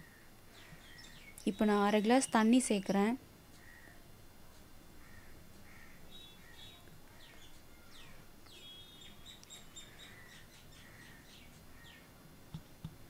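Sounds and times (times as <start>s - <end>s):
faint birds chirping: 0.0s - 12.8s.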